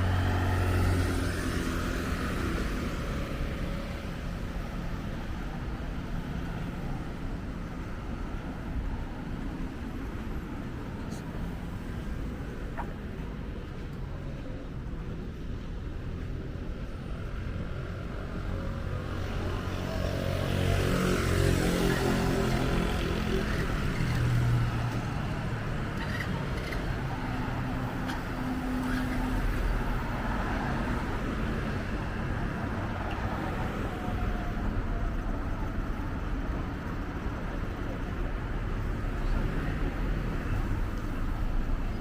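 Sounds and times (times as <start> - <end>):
street traffic: 0.0 - 42.0.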